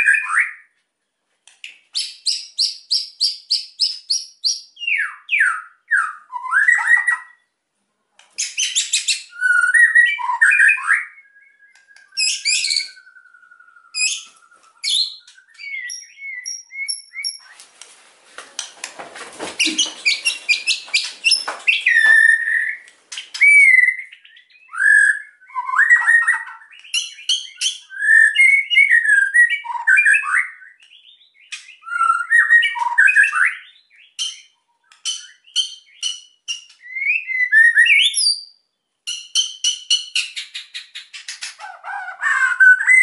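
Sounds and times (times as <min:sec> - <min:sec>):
songbird singing: 0:00.0 - 0:07.7, 0:08.4 - 0:17.7, 0:19.6 - 0:43.0.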